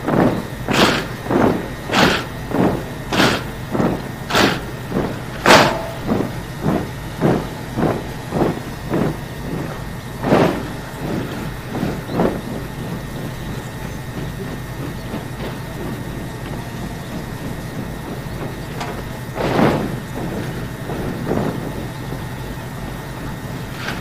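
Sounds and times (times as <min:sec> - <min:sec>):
boots stamping and rifles slapping: 0:00.1 - 0:22.3.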